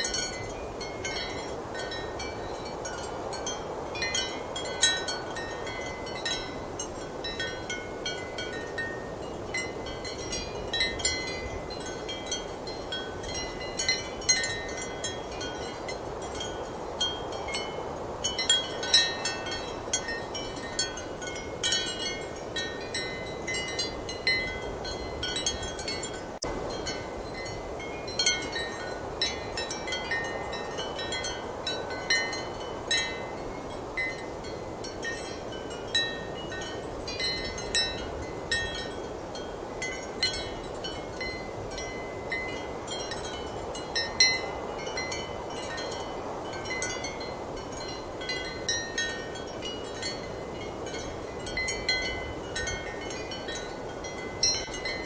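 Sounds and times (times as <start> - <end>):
ceramic wind chimes clinking: 0.0 - 55.0.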